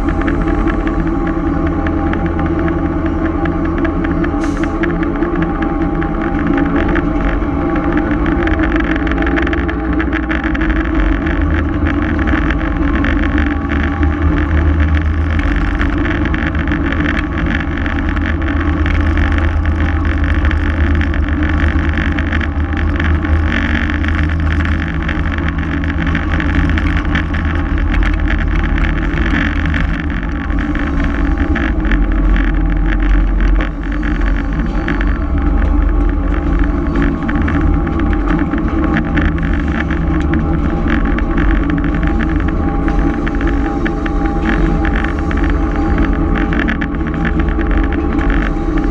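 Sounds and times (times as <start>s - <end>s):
diesel locomotive engine drone: 0.0s - 48.9s.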